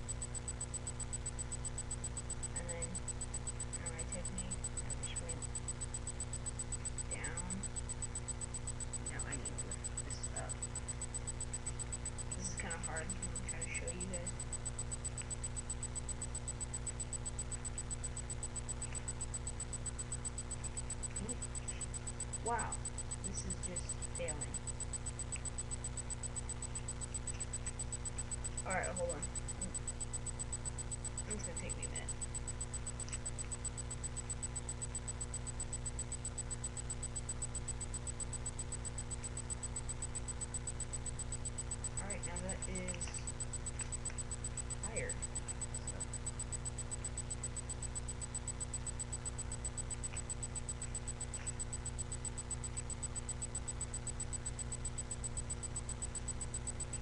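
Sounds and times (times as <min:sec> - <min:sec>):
electrical hum and hiss: 0:00.0 - 0:57.0
high pulsing whine: 0:00.0 - 0:57.0.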